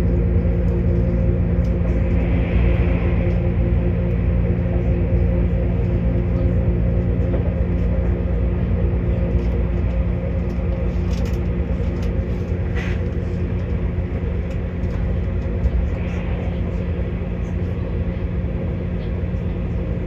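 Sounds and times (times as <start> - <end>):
train rumble and engine drone: 0.0 - 20.0.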